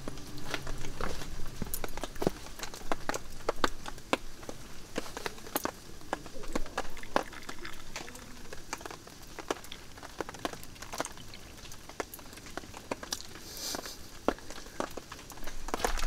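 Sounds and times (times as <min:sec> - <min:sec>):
faint hiss of rain: 0:00.0 - 0:16.0
raindrops tapping: 0:00.0 - 0:16.0.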